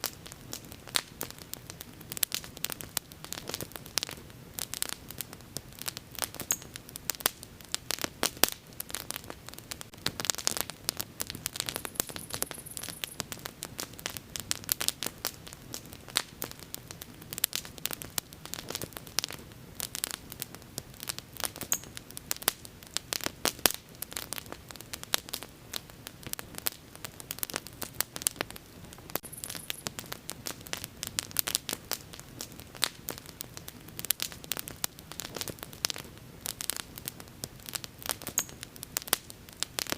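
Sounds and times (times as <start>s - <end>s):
low steady hiss: 0.0s - 39.9s
wood fire crackling: 0.0s - 39.9s.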